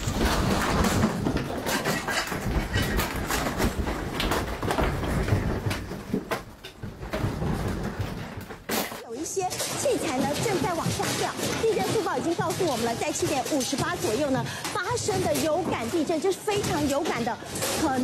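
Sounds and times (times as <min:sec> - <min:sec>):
shelf objects rattling and clattering: 0:00.0 - 0:18.0.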